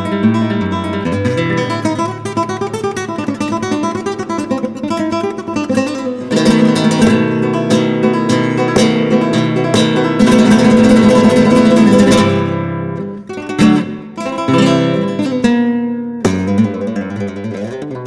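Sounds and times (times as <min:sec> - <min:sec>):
flamenco acoustic guitar: 0:00.0 - 0:18.0.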